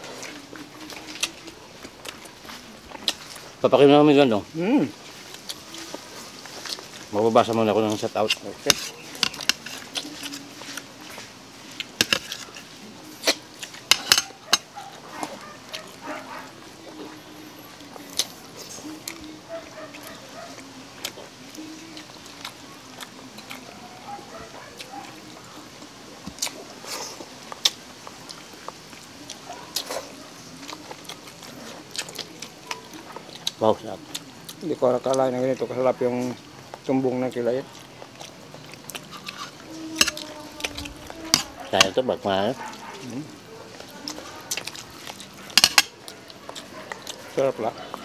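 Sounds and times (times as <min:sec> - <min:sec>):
mouths chewing: 0:00.0 - 0:48.0.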